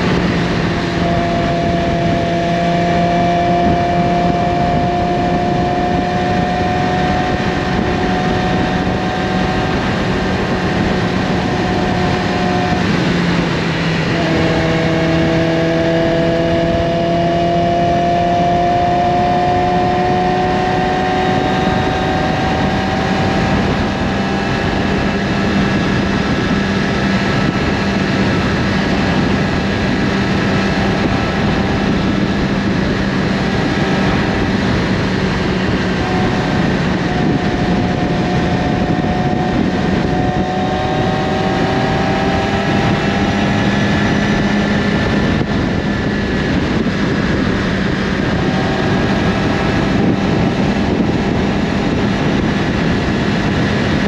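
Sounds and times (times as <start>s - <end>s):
motorcycle engine cruising: 0.0s - 54.0s
wind rush over microphone: 0.0s - 54.0s.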